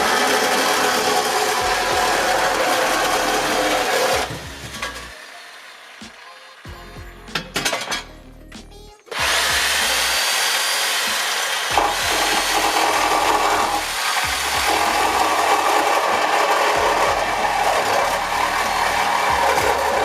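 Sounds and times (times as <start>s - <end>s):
cutoff tool grinding sheet metal: 0.0s - 6.6s, 9.1s - 20.0s.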